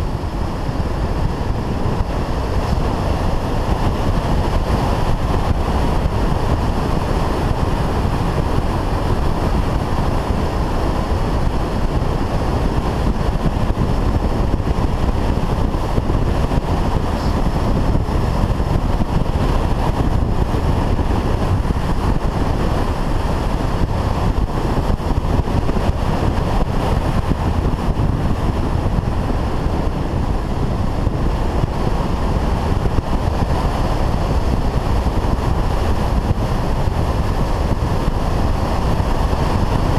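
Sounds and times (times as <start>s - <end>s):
motorcycle engine and tyre noise: 0.0s - 39.9s
wind rushing over microphone: 0.0s - 39.9s.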